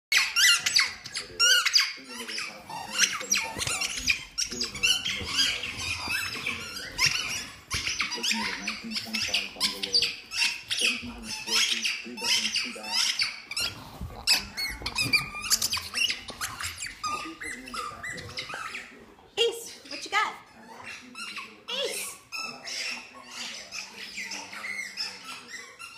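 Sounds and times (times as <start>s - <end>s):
squeaky dog toy squeaking: 0.1s - 25.9s.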